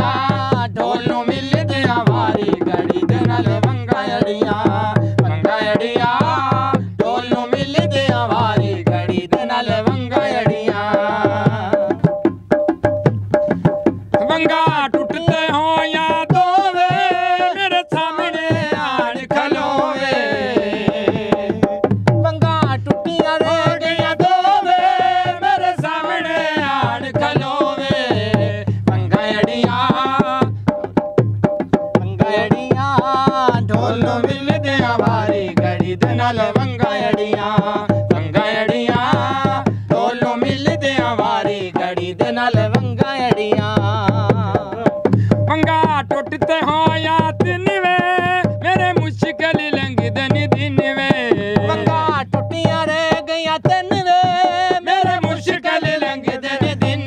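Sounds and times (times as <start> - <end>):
barrel drum fast beat: 0.0 - 57.0.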